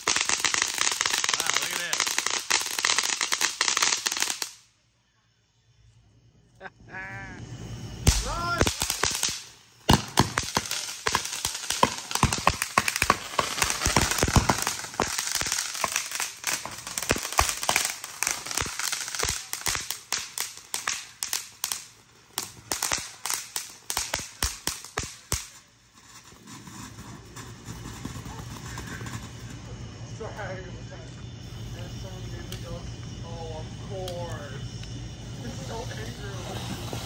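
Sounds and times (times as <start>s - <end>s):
spark fountain hissing: 0.0s - 4.7s, 7.4s - 37.0s
fireworks crackling pops: 0.0s - 4.8s, 7.9s - 29.9s, 31.2s - 37.0s.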